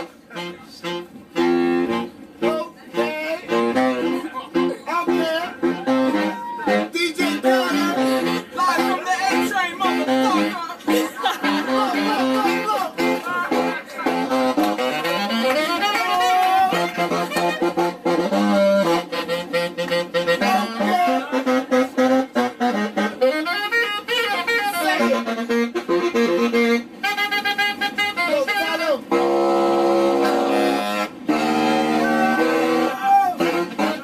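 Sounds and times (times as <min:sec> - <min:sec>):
saxophone jazz improvisation: 0:00.0 - 0:34.0.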